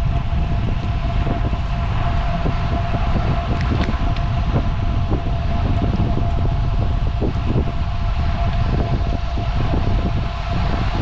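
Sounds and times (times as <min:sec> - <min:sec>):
thin steady hum: 0:00.0 - 0:11.0
wind buffeting microphone: 0:00.0 - 0:11.0.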